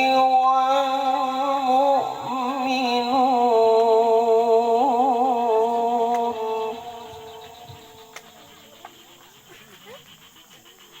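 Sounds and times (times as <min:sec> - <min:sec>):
person reciting melodically: 0:00.0 - 0:09.5.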